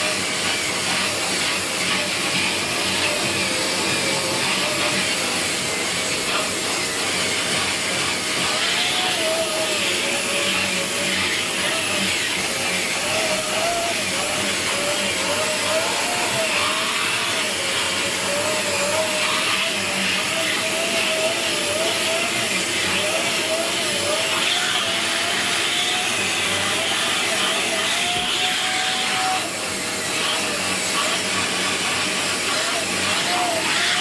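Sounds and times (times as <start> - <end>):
vacuum cleaner motor whine: 0.0 - 34.0.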